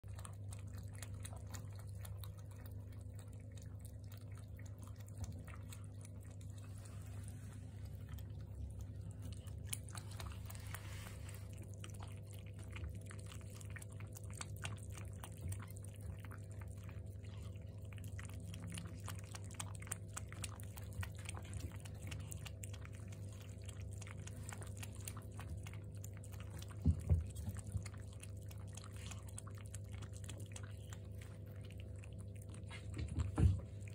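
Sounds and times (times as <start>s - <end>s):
kittens lapping milk: 0.0s - 33.9s
low hum: 0.1s - 33.9s.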